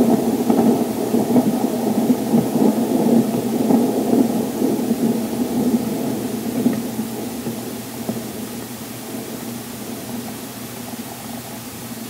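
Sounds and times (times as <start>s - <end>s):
heavy rain rushing: 0.0s - 12.0s.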